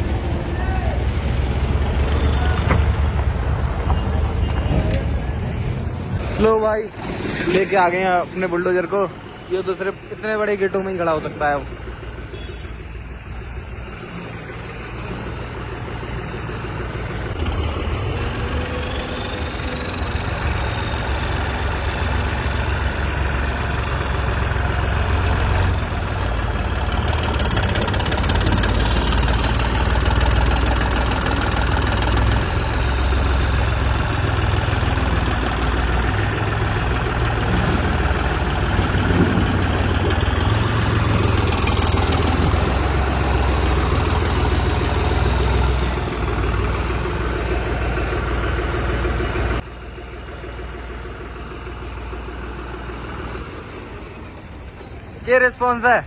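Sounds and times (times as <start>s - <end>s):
tractor diesel engine knocking rumble: 0.0s - 56.0s.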